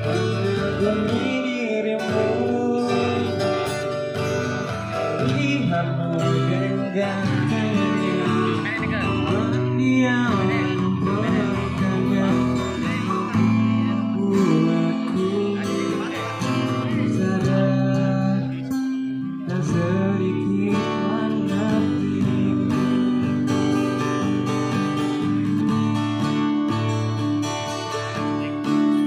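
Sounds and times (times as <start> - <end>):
acoustic guitars strumming over loudspeakers: 0.0 - 29.0.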